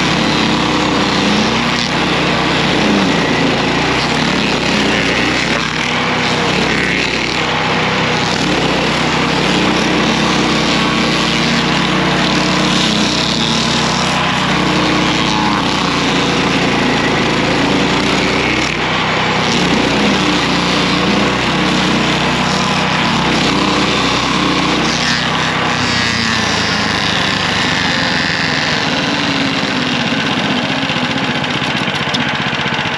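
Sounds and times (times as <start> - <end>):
cutter wheel grinding stump: 0.0 - 32.9
gasoline engine running: 0.0 - 32.9.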